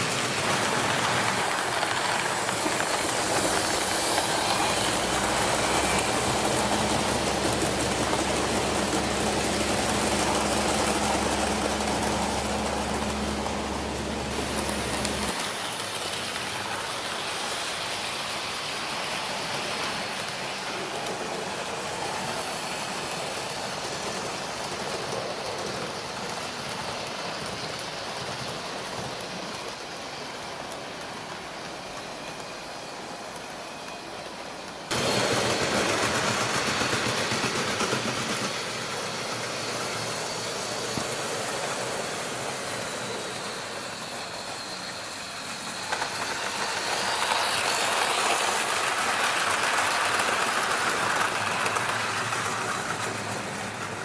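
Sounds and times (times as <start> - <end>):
model train motor hum: 0.0 - 54.0
wheels on track: 0.0 - 54.0.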